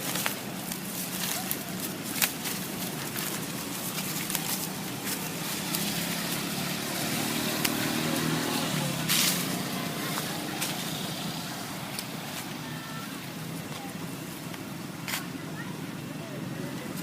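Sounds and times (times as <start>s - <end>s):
loud rustle: 0.0s - 13.8s
outdoor background noise: 0.0s - 17.0s
vehicle engine hum: 0.0s - 17.0s.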